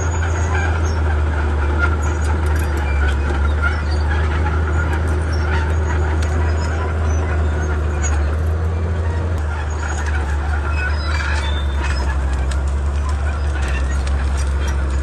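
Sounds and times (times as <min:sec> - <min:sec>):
bulldozer diesel engine running: 0:00.0 - 0:15.0
short clicks and squeaks: 0:01.8 - 0:15.0.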